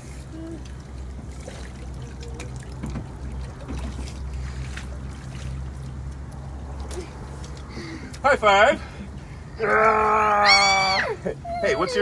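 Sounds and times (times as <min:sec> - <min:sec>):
water trickling: 0:00.0 - 0:10.4.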